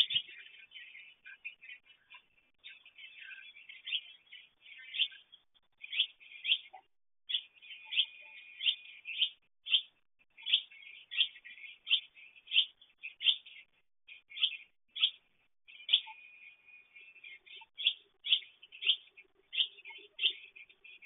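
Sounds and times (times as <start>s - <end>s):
soft bird twittering: 0.0s - 21.0s.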